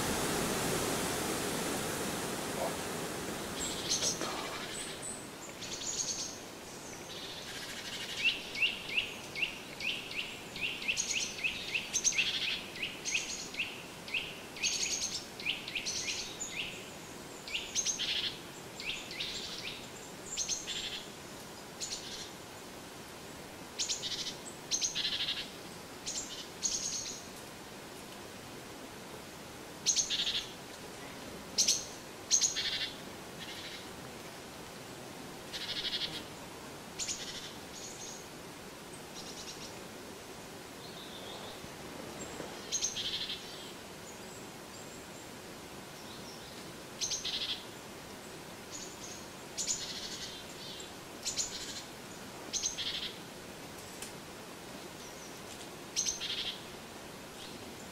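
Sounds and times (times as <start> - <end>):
songbirds calling: 2.4 - 27.4, 29.8 - 34.0, 34.8 - 38.3, 40.7 - 53.3, 54.9 - 57.9.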